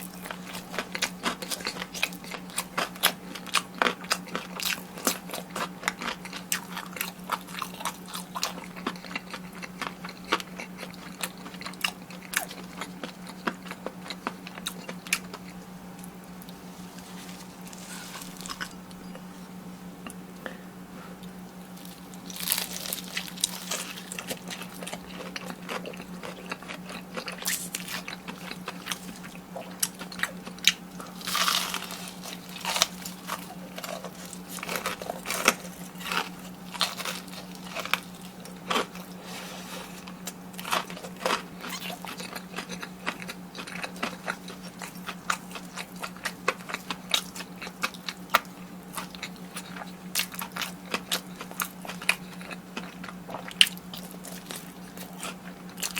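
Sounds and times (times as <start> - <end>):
chewing: 0.0 - 19.4, 20.0 - 55.9
crunchy eating: 0.0 - 55.9.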